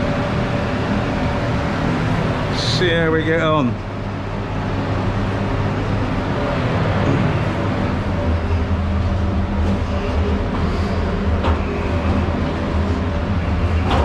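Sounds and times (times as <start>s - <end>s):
extraction fan air rush: 0.0s - 14.0s
low hum: 0.0s - 14.0s.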